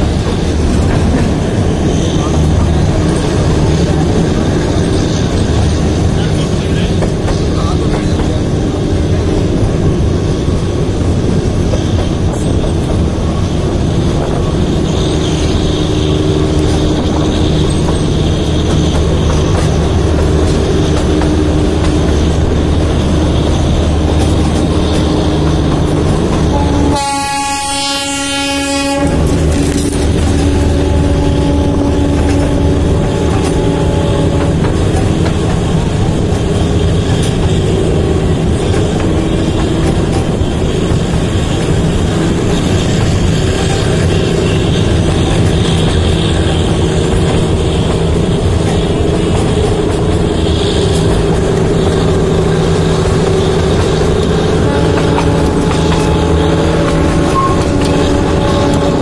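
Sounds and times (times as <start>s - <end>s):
rail joint clicks: 0.0s - 59.0s
train wheels rumbling and rattling: 0.0s - 59.0s.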